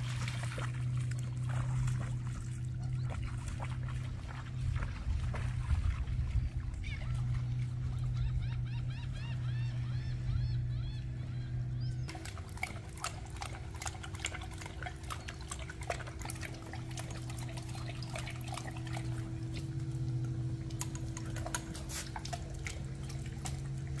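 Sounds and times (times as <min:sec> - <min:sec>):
water splashing and dripping: 0:00.0 - 0:08.0, 0:12.1 - 0:24.0
dog lapping water: 0:00.0 - 0:08.2, 0:12.1 - 0:24.0.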